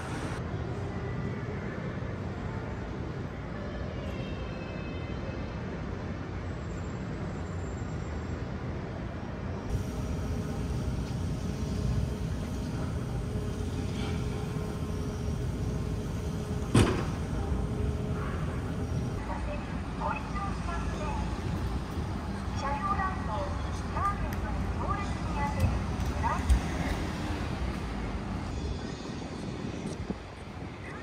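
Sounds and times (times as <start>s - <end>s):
city traffic rumble: 0.0s - 31.0s.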